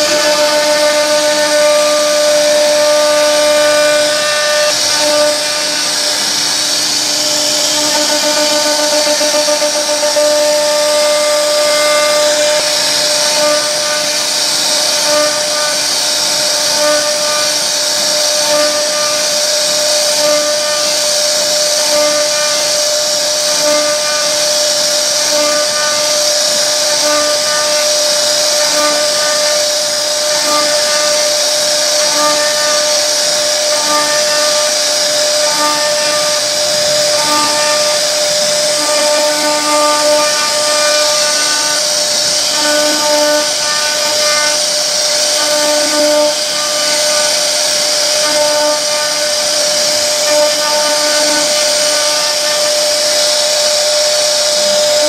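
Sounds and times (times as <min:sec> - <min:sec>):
hiss of wood being cut: 0:00.0 - 0:55.0
router spindle whining: 0:00.0 - 0:55.0.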